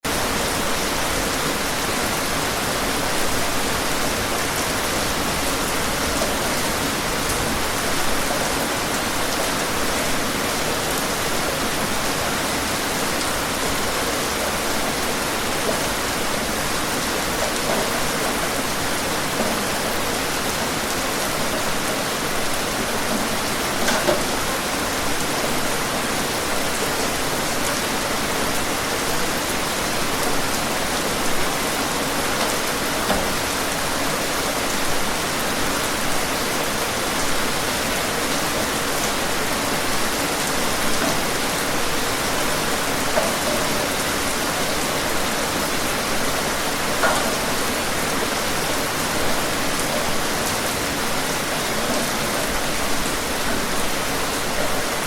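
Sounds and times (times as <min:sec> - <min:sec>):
steady rain falling: 0:00.0 - 0:55.0
individual raindrops: 0:00.1 - 0:55.0.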